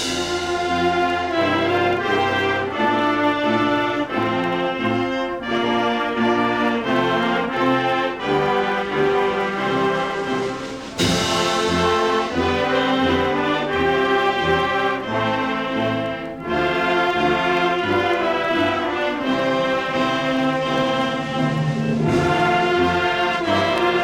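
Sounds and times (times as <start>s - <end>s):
brass-led band music: 0.0s - 24.0s.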